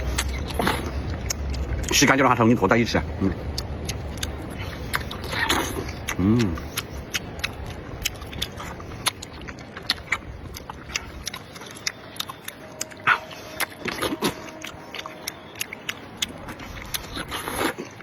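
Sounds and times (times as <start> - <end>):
person chewing noodles: 0.0 - 2.2, 3.2 - 18.0.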